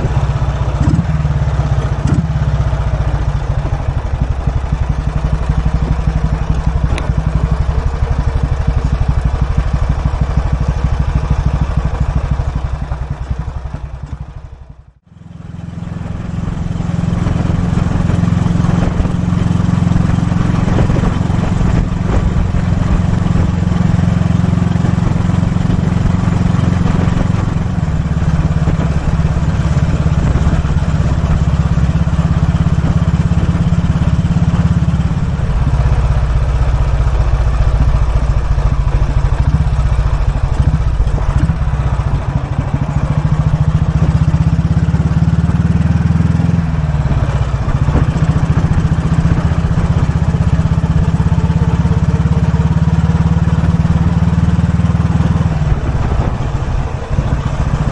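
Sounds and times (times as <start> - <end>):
motorcycle engine exhaust beat: 0.0 - 57.9.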